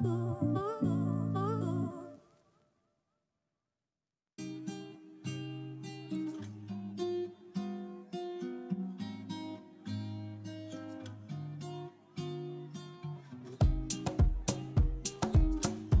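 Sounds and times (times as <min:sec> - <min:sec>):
acoustic guitar melody: 0:00.0 - 0:02.1, 0:04.4 - 0:16.0.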